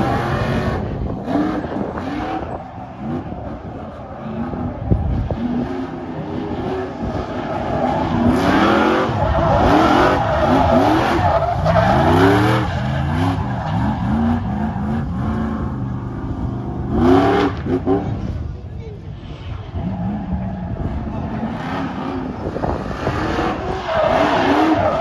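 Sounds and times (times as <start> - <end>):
rushing wind: 0.0 - 25.0.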